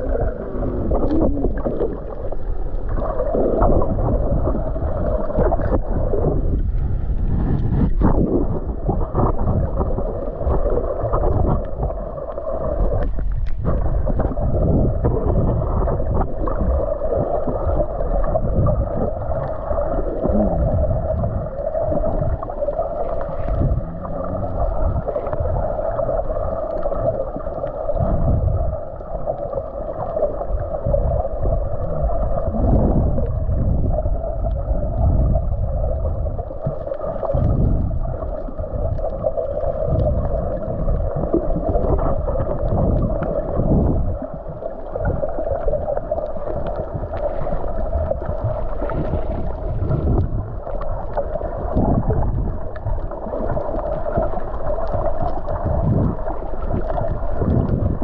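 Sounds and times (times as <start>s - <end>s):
steady hum: 0.0s - 52.8s
low rumbles: 0.0s - 58.0s.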